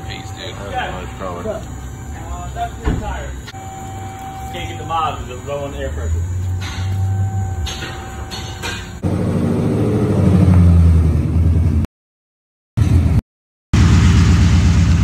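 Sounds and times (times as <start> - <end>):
car engine running loud: 0.0 - 11.8, 13.8 - 15.0.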